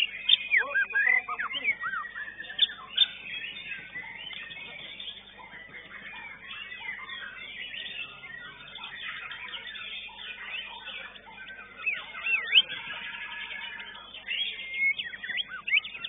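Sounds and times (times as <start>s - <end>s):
sharp loud bird notes: 0.0s - 16.0s
songbirds singing: 0.0s - 16.0s.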